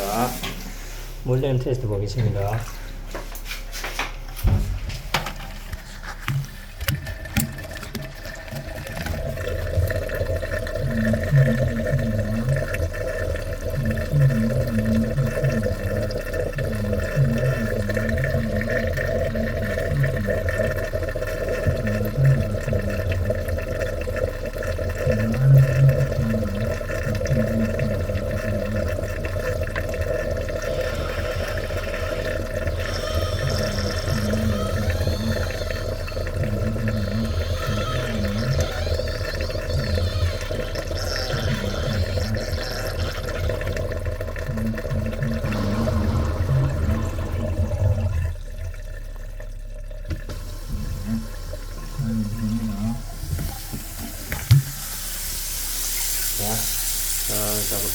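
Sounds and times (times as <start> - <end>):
low gurgling in pipe: 0.0 - 57.9
water draining down bathtub drain: 0.0 - 57.9.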